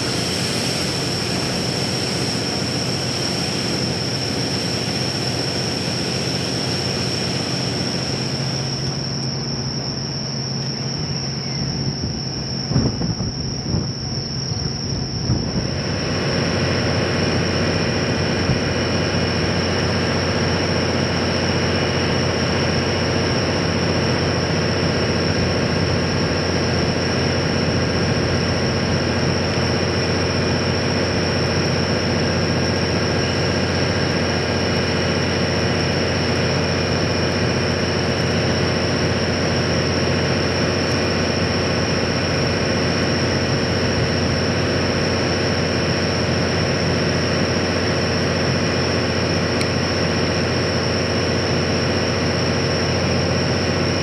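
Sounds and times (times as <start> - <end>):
steam locomotive rumble: 0.0 - 54.0.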